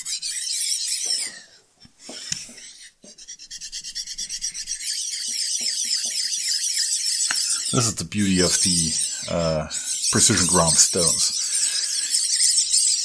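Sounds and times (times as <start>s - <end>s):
stone rasping on metal: 0.0s - 13.0s.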